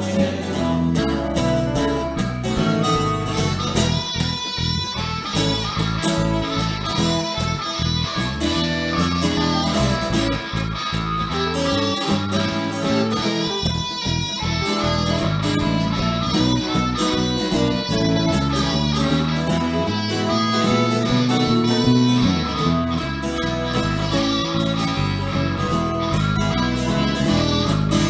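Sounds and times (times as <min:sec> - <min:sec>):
blues band playing: 0:00.0 - 0:28.0
harmonica: 0:00.0 - 0:28.0.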